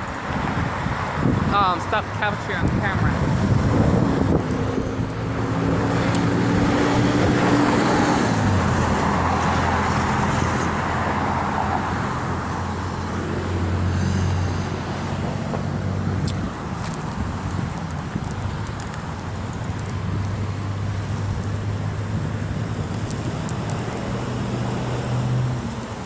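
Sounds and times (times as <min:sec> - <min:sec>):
cars passing with tyre noise: 0:00.0 - 0:26.0
low engine hum of traffic: 0:00.0 - 0:26.0.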